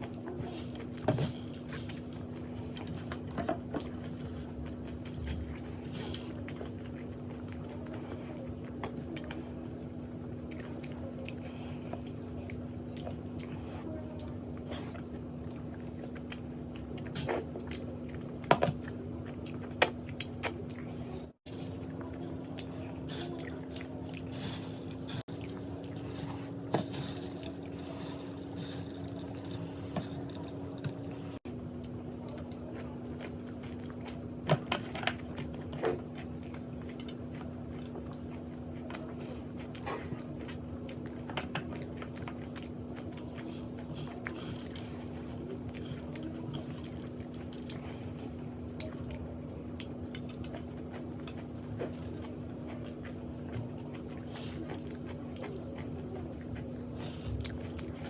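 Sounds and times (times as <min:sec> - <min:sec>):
person chewing and eating: 0:00.0 - 0:58.0
steady low hum: 0:00.0 - 0:58.0.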